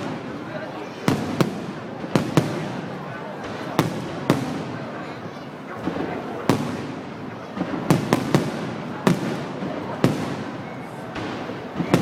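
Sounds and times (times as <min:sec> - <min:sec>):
fireworks bangs: 0:00.0 - 0:12.0
fireworks hiss and crackle: 0:00.0 - 0:12.0.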